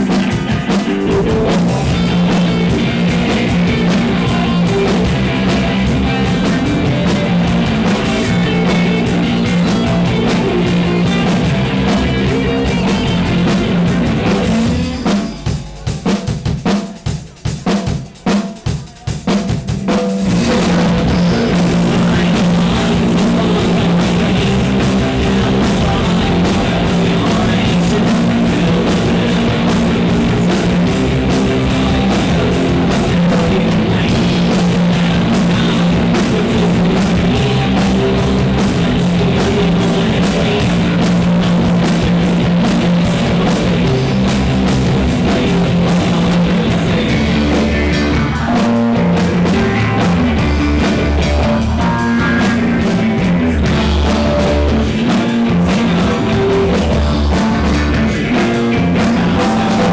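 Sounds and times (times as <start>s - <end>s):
drums keeping a steady beat: 0.0s - 59.9s
live rock band playing: 0.0s - 59.9s.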